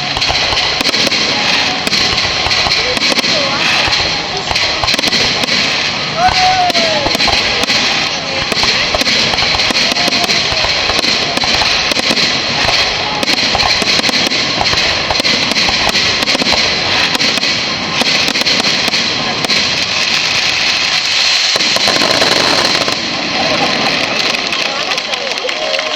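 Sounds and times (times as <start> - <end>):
fireworks bursting and crackling: 0.0 - 25.9.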